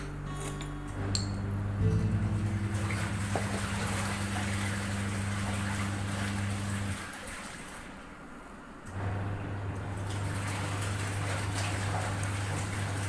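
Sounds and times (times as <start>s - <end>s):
low electric hum: 0.0s - 13.0s
running water: 1.0s - 13.0s.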